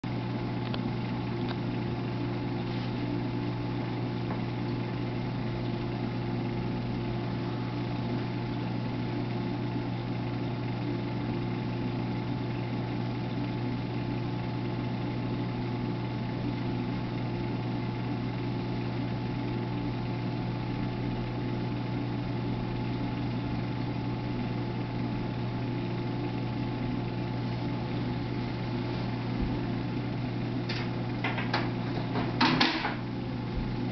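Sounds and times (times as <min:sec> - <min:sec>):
aquarium pumps humming: 0:00.0 - 0:33.9.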